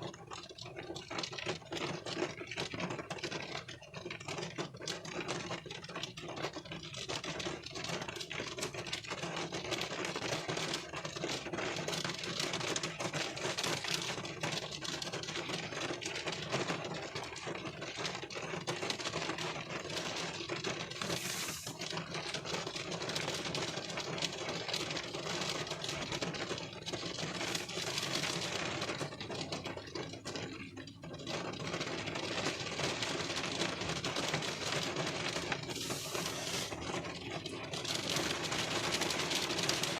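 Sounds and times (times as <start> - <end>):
rain pattering on car: 0.0 - 39.9.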